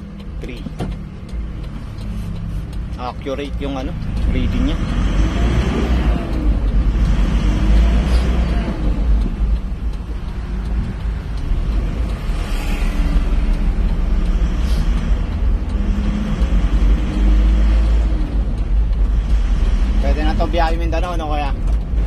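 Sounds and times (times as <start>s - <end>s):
diesel engine and road rumble: 0.0s - 22.0s.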